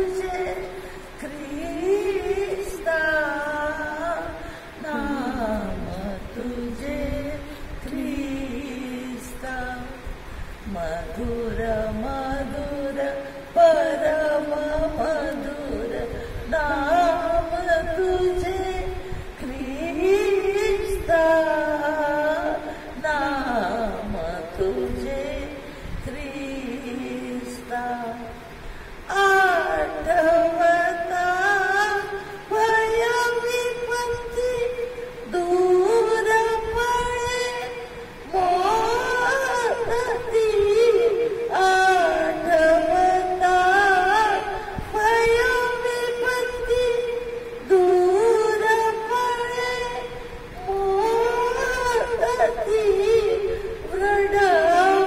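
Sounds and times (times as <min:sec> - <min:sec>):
woman singing hymn into microphone: 0:00.0 - 0:55.0.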